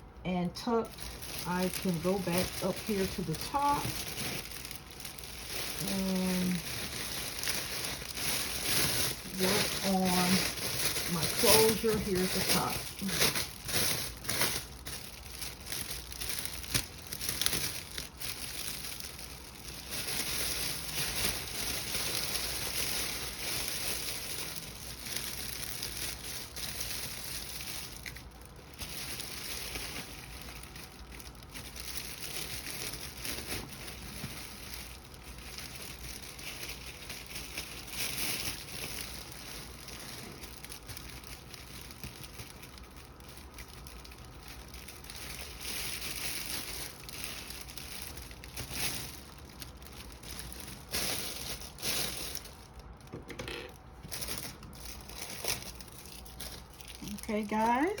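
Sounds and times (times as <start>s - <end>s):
wrapping crinkling and rustling: 0.0s - 58.0s.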